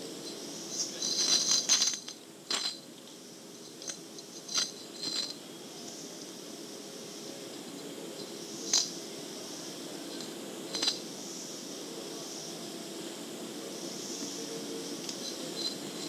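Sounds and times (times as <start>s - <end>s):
tape hiss and hum: 0.0s - 16.0s.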